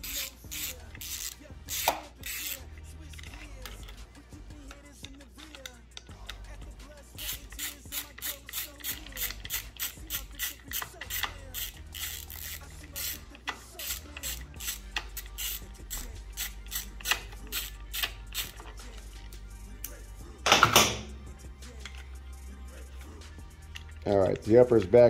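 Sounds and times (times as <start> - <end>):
ratcheting screwdriver clicking: 0.0 - 6.5, 7.1 - 21.0, 21.7 - 22.2, 23.0 - 25.0.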